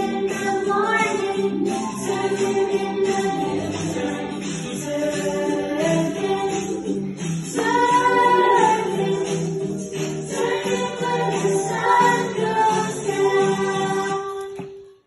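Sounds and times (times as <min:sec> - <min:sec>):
choir singing worship song: 0:00.0 - 0:06.9, 0:07.5 - 0:14.6
steady-beat accompaniment: 0:00.0 - 0:14.2.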